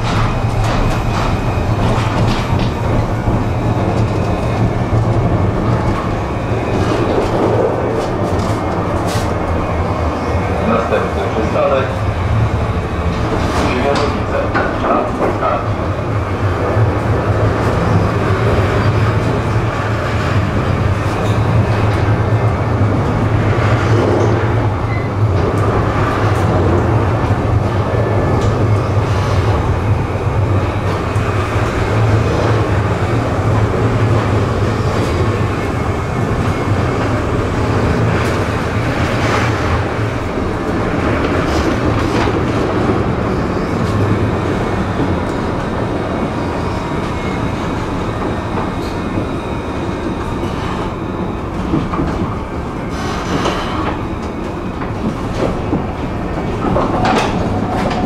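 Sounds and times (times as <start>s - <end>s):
tram wheels rolling on rails: 0.0s - 58.0s.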